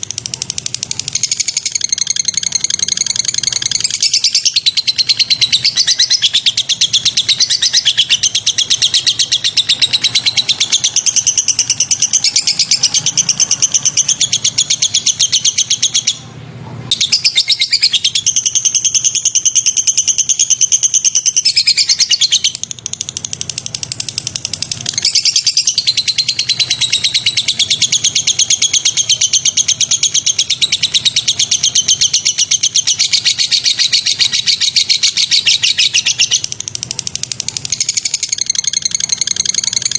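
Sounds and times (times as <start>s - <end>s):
songbird chattering trill: 0.0s - 16.2s, 16.9s - 39.9s.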